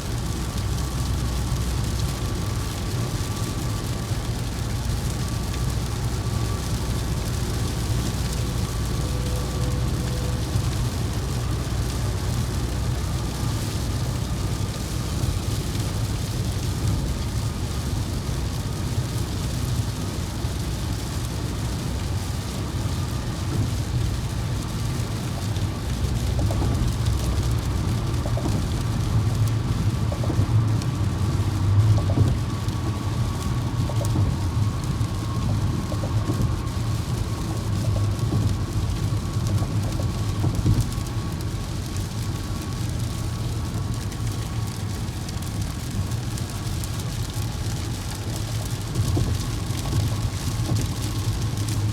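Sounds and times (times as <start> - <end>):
rain hitting vehicle: 0.0 - 51.9
vehicle engine and road rumble: 0.0 - 51.9.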